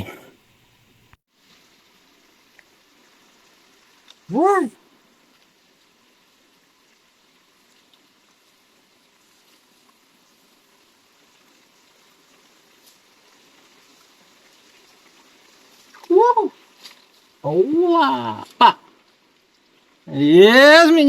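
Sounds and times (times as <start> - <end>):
small stream trickling: 1.3 - 21.0.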